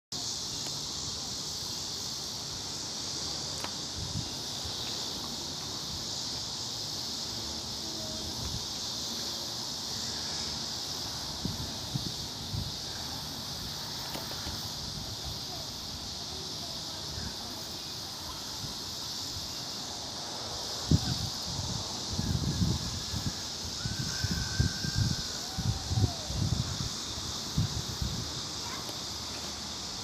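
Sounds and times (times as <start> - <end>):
insects shrilling: 0.2 - 30.0.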